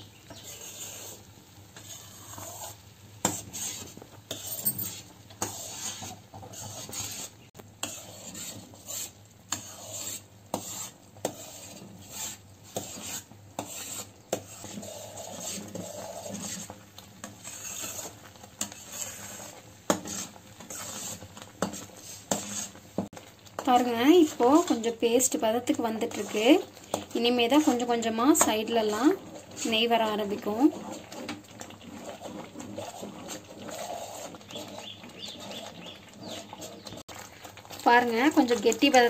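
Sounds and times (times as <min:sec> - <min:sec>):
metal spoon scraping a pan: 0:00.0 - 0:39.0.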